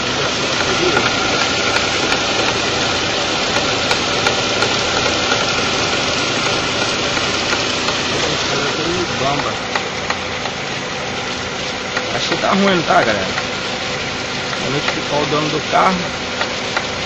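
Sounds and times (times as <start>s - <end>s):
air conditioning compressor noise: 0.0s - 17.0s
car engine idling: 0.0s - 17.0s.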